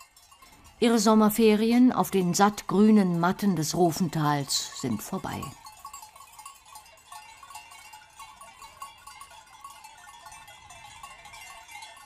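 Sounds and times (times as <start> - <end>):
sheep bells clinking: 0.0 - 12.0.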